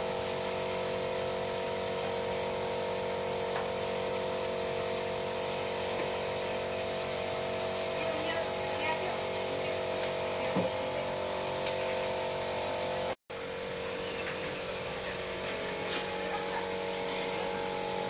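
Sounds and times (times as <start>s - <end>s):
small electric motor whining: 0.0s - 18.0s.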